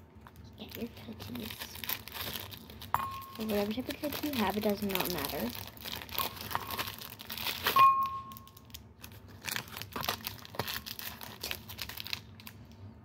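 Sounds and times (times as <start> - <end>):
wrapper crinkling and tearing: 0.2 - 12.9.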